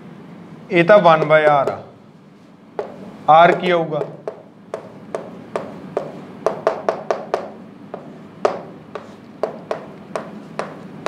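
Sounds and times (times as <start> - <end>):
chalk tapping on chalkboard: 1.2 - 1.9, 2.8 - 11.0.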